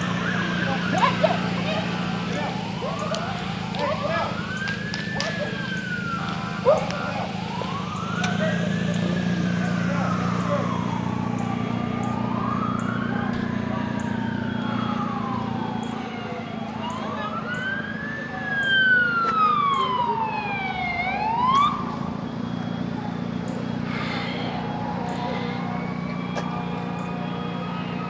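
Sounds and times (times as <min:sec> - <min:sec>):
low engine rumble: 0:00.0 - 0:28.0
sirens wailing: 0:00.0 - 0:28.0.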